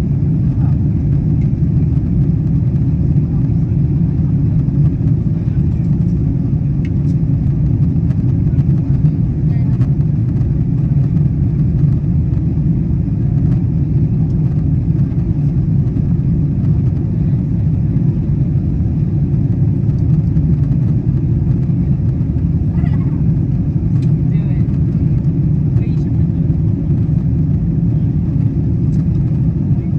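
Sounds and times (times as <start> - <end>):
airliner cabin rumble: 0.0 - 29.9.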